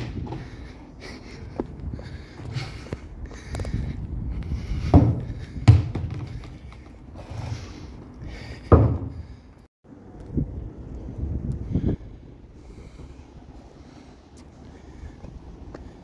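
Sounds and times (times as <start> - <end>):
wind and handling rumble on microphone: 0.0 - 16.0.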